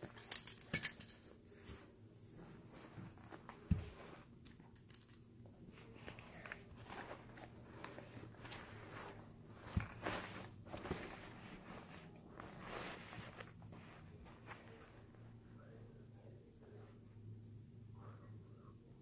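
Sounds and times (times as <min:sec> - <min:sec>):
clothes rustling: 0:00.0 - 0:16.0.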